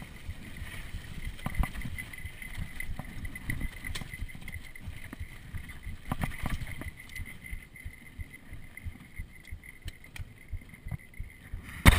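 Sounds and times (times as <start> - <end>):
mountain bike rattling over bumps: 0.0 - 11.9.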